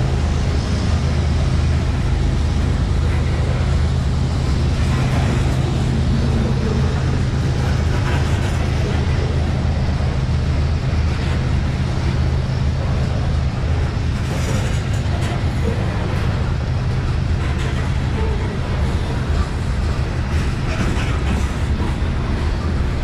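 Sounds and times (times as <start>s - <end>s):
train rolling slowly on rails: 0.0s - 23.0s.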